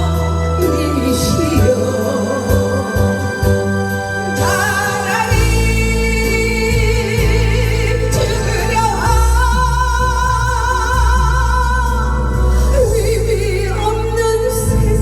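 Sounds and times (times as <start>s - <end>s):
karaoke backing track: 0.0s - 15.0s
person singing with vibrato: 0.0s - 15.0s.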